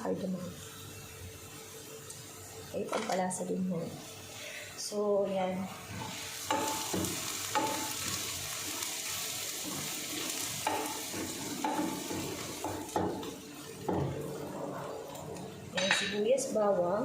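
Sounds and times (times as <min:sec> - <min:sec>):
spices sizzling in oil: 0:00.0 - 0:17.0.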